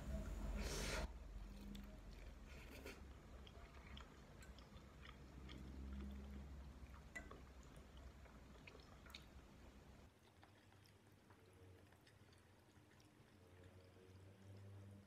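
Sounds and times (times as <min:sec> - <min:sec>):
close chewing of noodles: 0:01.1 - 0:15.0.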